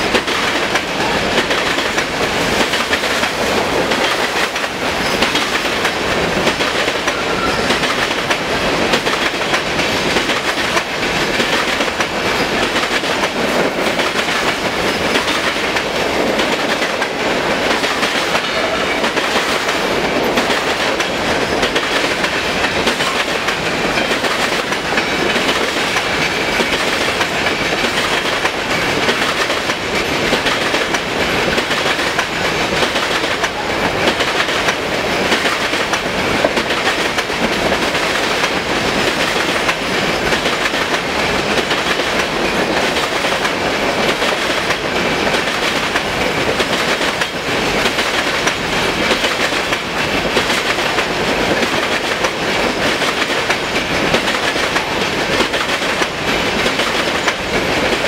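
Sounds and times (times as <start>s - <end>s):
clickety-clack over rail joints: 0.0s - 58.0s
steel wheels rumbling on rail: 0.0s - 58.0s.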